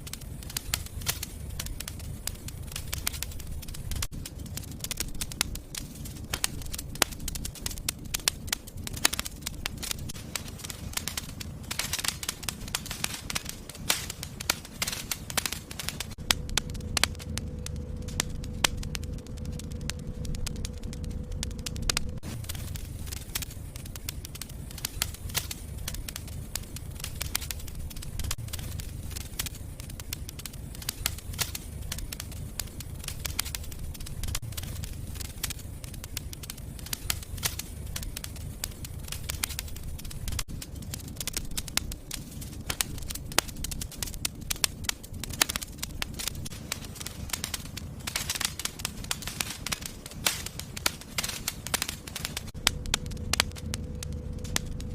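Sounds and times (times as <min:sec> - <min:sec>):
fire crackles and pops: 0:00.0 - 0:54.9
fire hissing: 0:00.0 - 0:54.9
low rumble of flames: 0:00.0 - 0:54.9.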